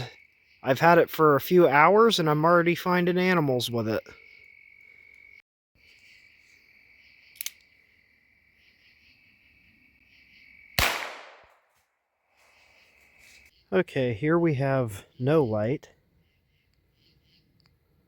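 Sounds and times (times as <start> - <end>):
crickets chirring: 0.0 - 10.8, 11.4 - 18.0.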